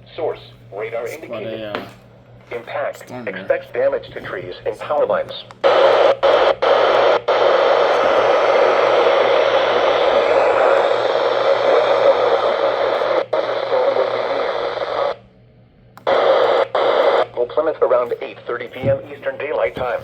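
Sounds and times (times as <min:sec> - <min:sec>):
radio static hiss: 0:00.0 - 0:01.5, 0:02.5 - 0:15.2, 0:16.0 - 0:20.0.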